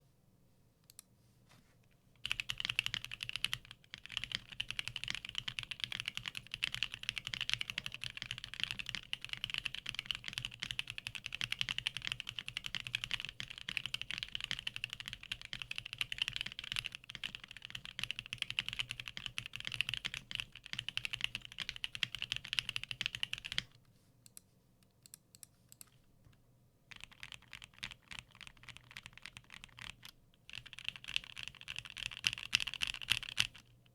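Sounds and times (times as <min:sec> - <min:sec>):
fast mechanical keyboard typing: 0:02.2 - 0:23.7, 0:26.9 - 0:33.7.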